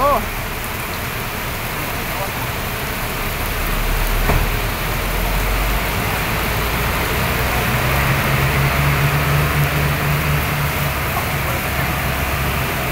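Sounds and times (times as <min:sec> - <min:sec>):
bus diesel engine pulling away: 0:00.0 - 0:12.9
heavy rain hissing: 0:00.0 - 0:12.9.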